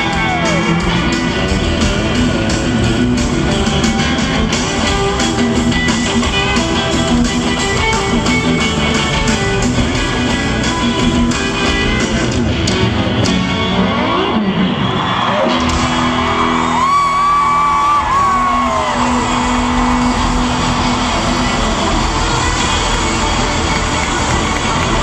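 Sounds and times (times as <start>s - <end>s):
steady drum beat: 0.0s - 13.7s, 15.4s - 25.0s
guitar: 0.0s - 25.0s
live country band playing: 0.0s - 25.0s.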